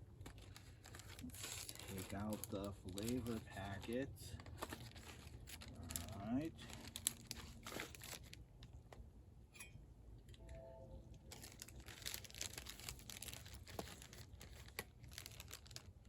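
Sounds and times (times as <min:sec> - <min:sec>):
plastic packet crinkling and tearing: 0:00.1 - 0:08.8, 0:11.3 - 0:16.0.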